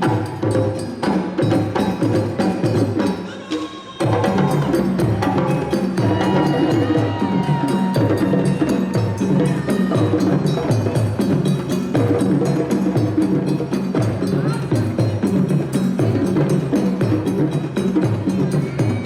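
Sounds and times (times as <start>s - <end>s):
hand drums: 0.0s - 19.0s.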